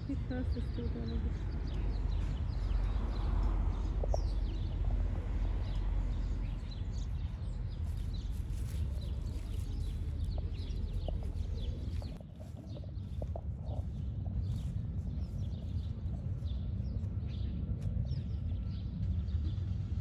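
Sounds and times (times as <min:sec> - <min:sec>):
city traffic rumble: 0:00.0 - 0:20.0
songbirds chirping: 0:00.0 - 0:20.0.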